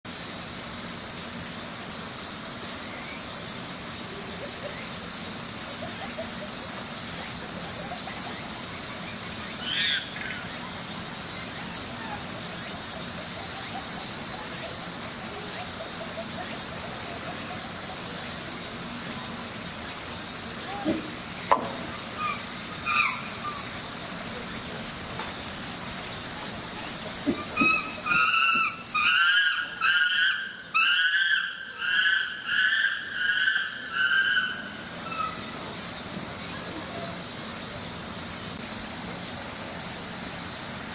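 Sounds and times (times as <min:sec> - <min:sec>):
cicadas hissing: 0:00.1 - 0:40.9.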